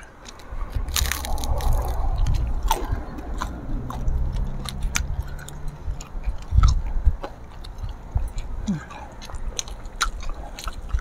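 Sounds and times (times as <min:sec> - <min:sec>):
crunchy chewing of raw vegetables: 0:00.0 - 0:11.0
low steady rumble: 0:00.0 - 0:11.0.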